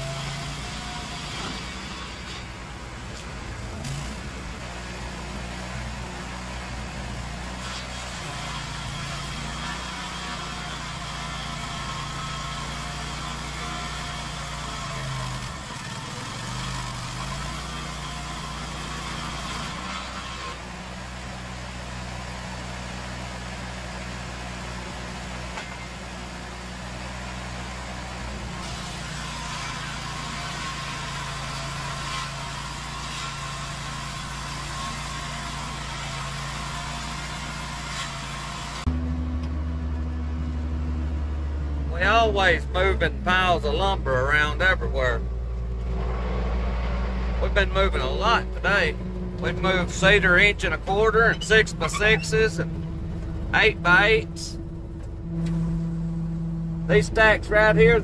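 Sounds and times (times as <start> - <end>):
wheel loader engine running: 0.0 - 58.0.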